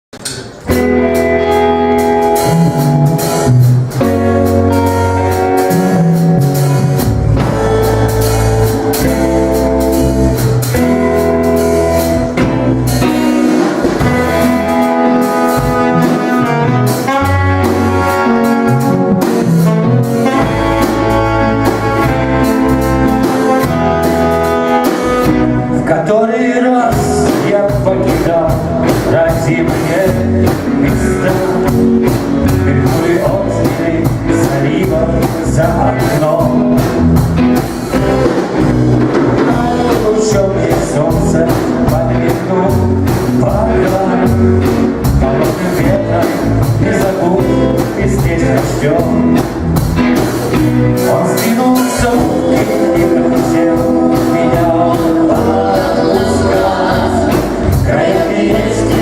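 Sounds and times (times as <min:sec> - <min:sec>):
steady drumbeat: 0:00.1 - 0:25.8, 0:26.9 - 0:59.0
rock band playing: 0:00.1 - 0:59.0
stepping bass line: 0:00.7 - 0:25.9, 0:26.8 - 0:59.0.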